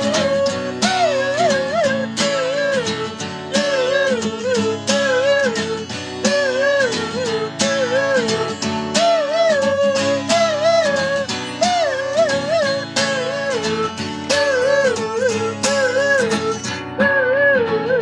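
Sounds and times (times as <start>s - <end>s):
acoustic guitars strummed: 0.0s - 18.0s
wordless vocal melody: 0.0s - 18.0s.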